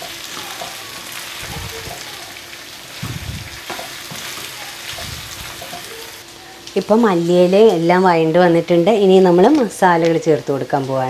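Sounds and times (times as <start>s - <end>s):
chicken sizzling in a wok: 0.0s - 11.0s.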